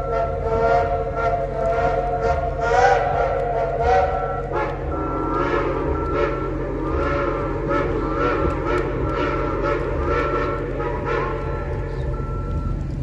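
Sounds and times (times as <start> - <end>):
high steady tone: 0.0 - 12.9
steam locomotive exhaust chuffing: 0.0 - 13.0.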